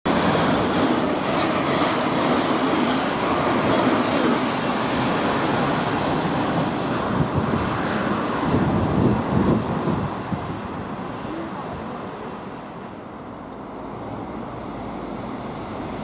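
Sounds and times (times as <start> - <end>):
train rushing past: 0.1 - 16.0.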